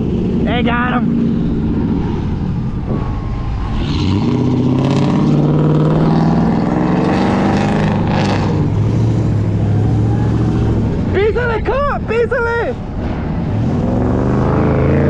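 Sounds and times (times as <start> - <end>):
car engine accelerating: 0.0 - 11.6, 12.8 - 15.0.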